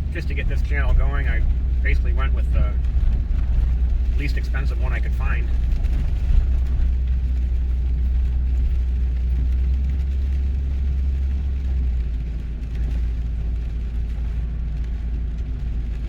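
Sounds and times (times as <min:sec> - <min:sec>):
car engine and tyre drone: 0:00.0 - 0:16.0.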